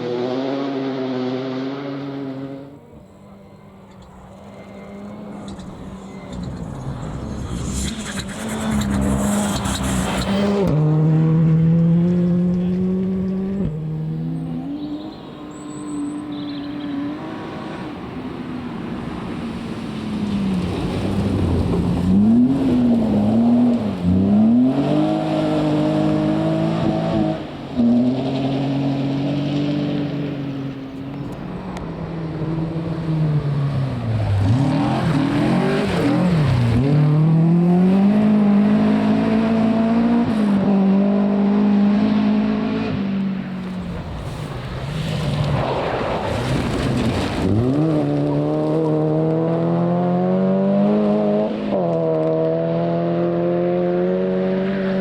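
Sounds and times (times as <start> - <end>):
rally car engine revving: 4.8 - 17.8, 20.5 - 55.0.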